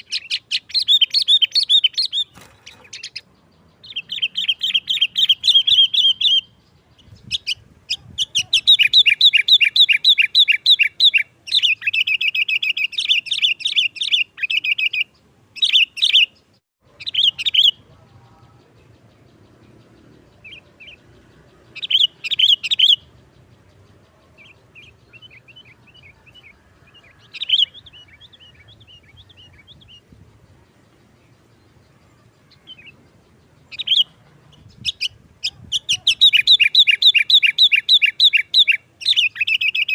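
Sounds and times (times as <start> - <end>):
bird singing chattering trills: 0.0 - 39.9.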